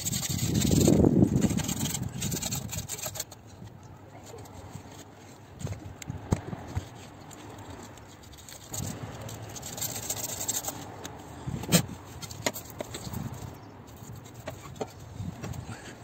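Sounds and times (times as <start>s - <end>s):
hands scraping and clicking parts: 0.0s - 16.0s.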